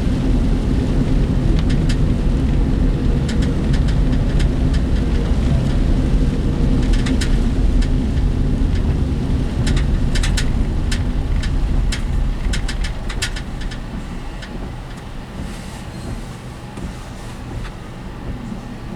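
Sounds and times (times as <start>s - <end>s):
road and engine rumble: 0.0s - 18.9s
sharp clicks and rattles: 1.3s - 18.4s.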